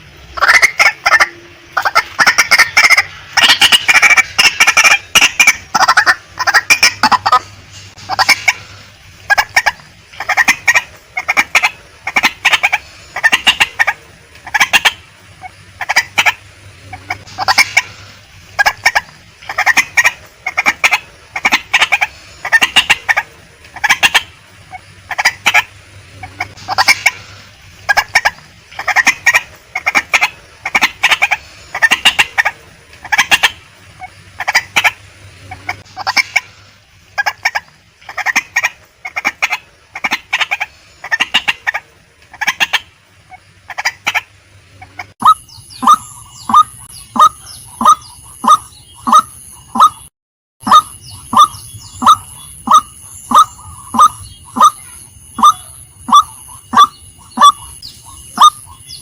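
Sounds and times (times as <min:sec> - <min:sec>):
waterhen harsh clucking: 0:00.0 - 0:59.0
waterhen short repeated calls: 0:00.0 - 0:59.0.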